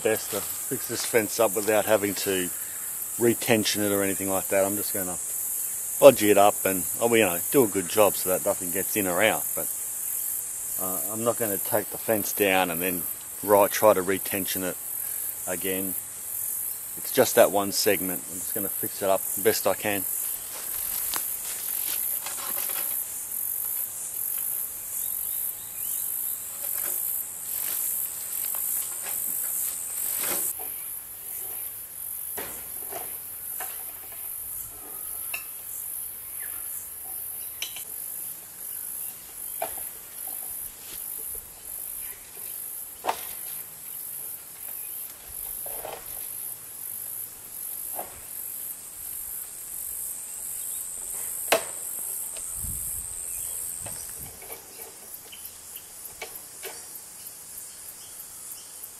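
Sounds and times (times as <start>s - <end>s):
insects chirring: 0.0s - 58.9s.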